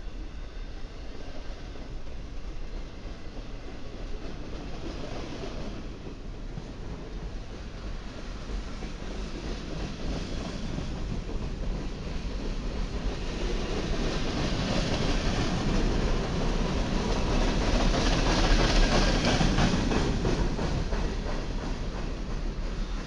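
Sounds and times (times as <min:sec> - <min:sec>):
freight train rolling past: 0:00.0 - 0:23.0
wheels clacking over rail joints: 0:04.1 - 0:23.0.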